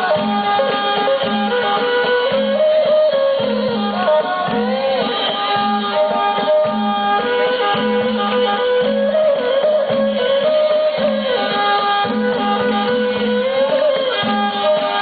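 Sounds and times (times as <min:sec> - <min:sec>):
hand drum beat: 0:00.0 - 0:15.0
wavering folk melody: 0:00.0 - 0:15.0.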